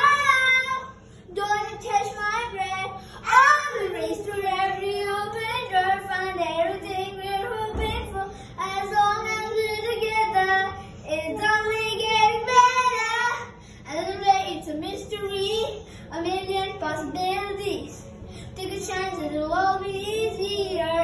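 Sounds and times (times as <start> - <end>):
girl singing pop song: 0.0 - 21.0.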